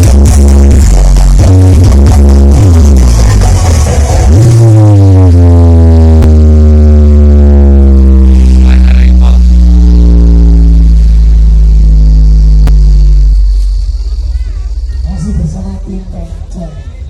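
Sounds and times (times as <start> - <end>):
deep bass drone from sound system: 0.0 - 16.9.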